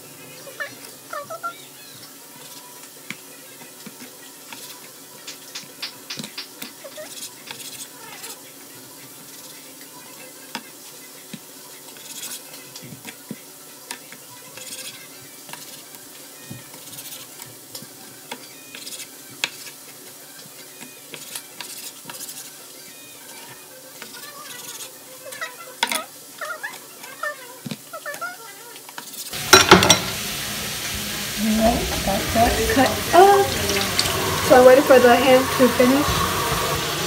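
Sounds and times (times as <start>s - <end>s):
ham sizzling in a pan: 0.0s - 37.0s.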